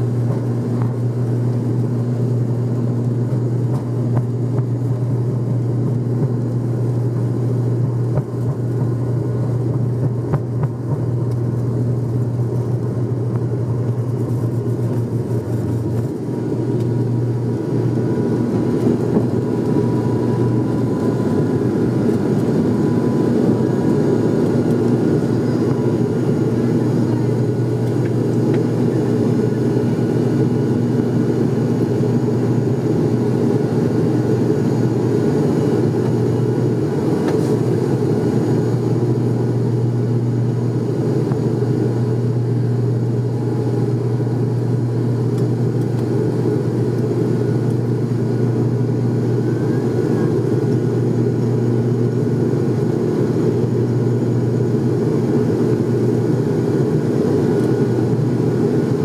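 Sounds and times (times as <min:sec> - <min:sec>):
turboprop engine drone in cabin: 0:00.0 - 0:59.0.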